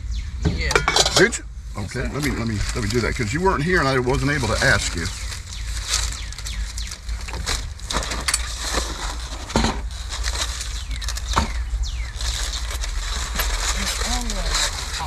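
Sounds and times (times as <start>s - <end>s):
steady low rumble: 0.0s - 15.0s
plastic packaging crinkling: 2.1s - 15.0s.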